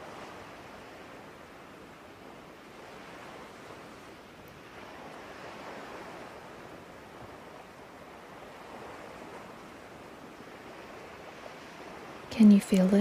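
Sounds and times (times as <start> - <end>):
gentle ocean surf: 0.0 - 13.0.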